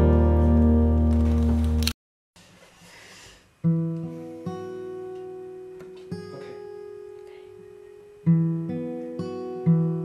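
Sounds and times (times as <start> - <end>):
acoustic guitar strummed chords: 0.0 - 1.8, 3.6 - 10.0.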